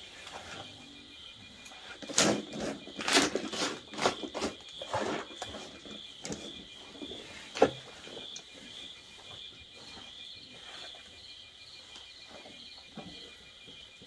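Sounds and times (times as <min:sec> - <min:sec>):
insects chirring: 0:00.0 - 0:14.0
rustling and scraping of handling: 0:00.0 - 0:14.0.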